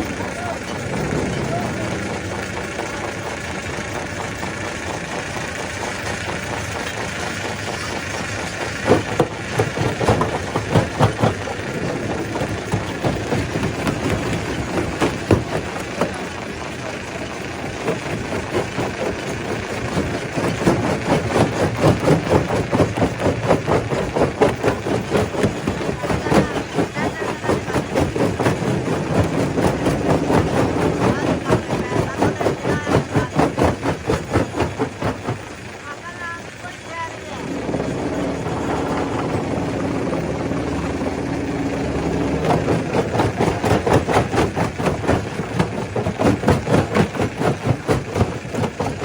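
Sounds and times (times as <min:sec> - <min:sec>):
stone crusher droning: 0:00.0 - 0:49.0.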